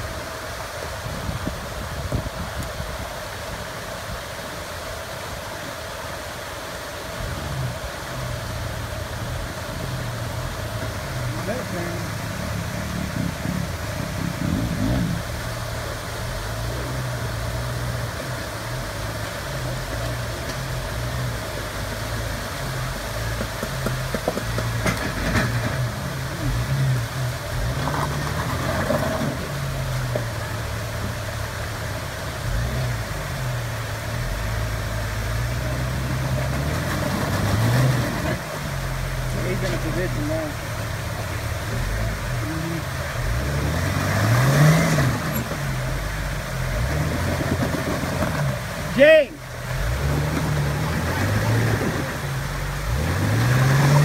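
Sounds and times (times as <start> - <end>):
engine running at low revs: 0.0 - 54.0
rushing water: 0.0 - 54.0.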